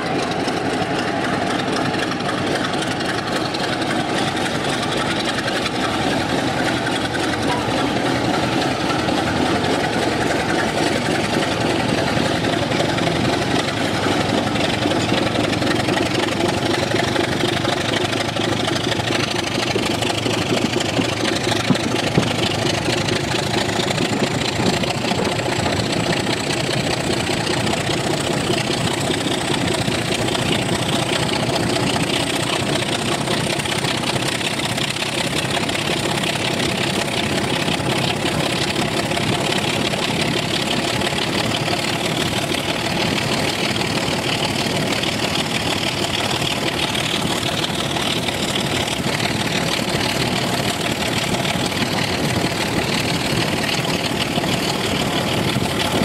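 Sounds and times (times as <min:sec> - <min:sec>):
diesel locomotive engine under load: 0:00.0 - 0:56.0
wheel and rail noise: 0:00.0 - 0:56.0.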